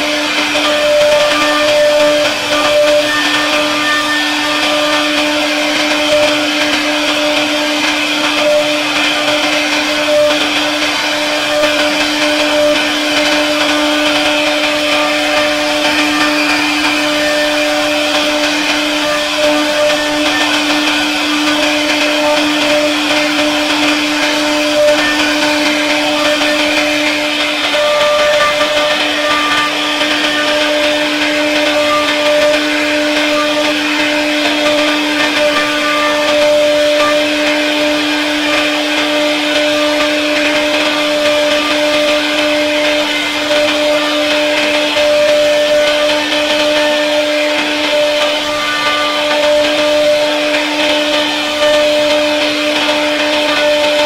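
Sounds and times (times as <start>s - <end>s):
hiss of wood being cut: 0.0s - 54.0s
router spindle whine: 0.0s - 54.0s.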